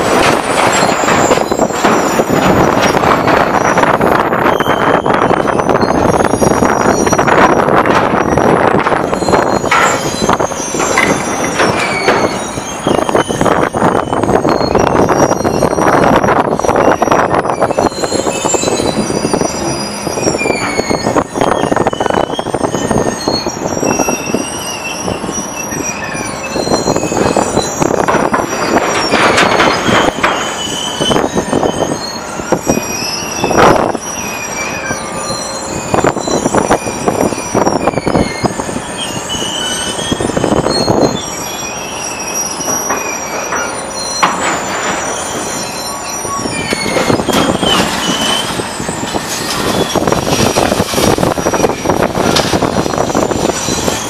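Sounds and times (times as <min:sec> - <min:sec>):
high metal squeals: 0:00.0 - 0:54.0
scrap metal clattering and screeching: 0:00.0 - 0:54.0.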